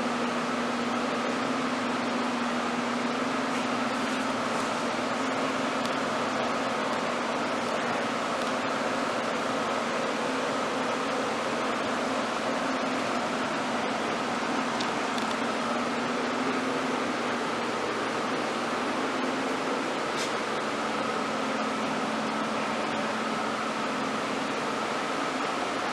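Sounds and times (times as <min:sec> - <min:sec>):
machine running hiss and hum: 0:00.0 - 0:25.9.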